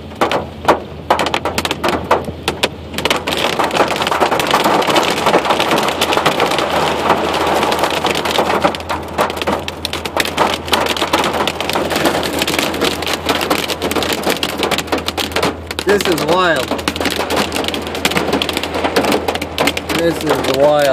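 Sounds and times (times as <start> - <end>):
hail and rain pelting truck roof: 0.0 - 20.9.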